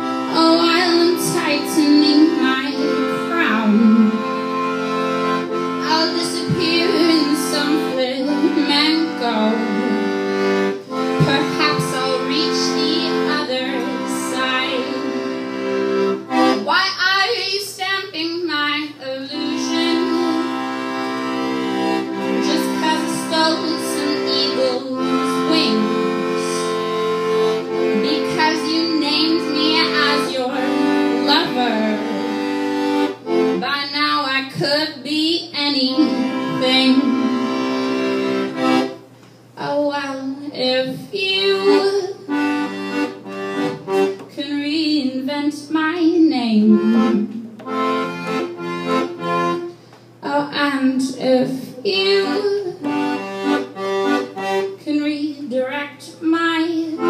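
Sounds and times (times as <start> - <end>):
piano accordion playing chords: 0.0 - 57.0.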